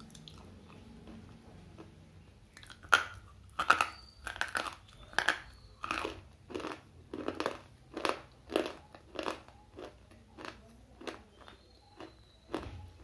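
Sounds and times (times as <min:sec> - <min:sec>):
gritty chewing crunches: 0:00.0 - 0:13.0.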